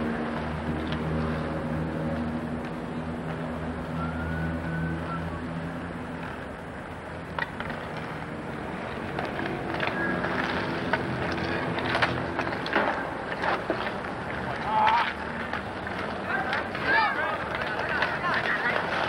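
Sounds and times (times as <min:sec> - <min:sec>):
low engine-like hum: 0:00.0 - 0:19.0
hockey sticks clacking on asphalt: 0:00.2 - 0:03.5, 0:06.2 - 0:19.0.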